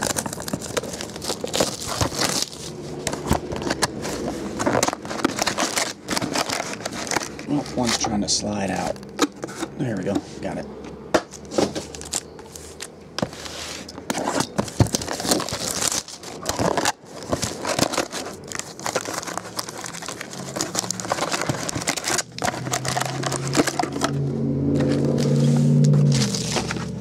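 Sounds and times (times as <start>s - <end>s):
foil packs crinkling: 0.0s - 10.0s, 11.5s - 24.1s, 24.8s - 27.0s.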